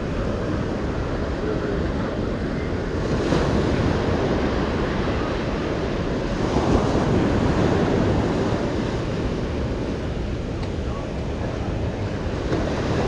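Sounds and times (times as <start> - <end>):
ocean surf breaking on beach: 0.0 - 13.0
wind on microphone: 0.0 - 13.0.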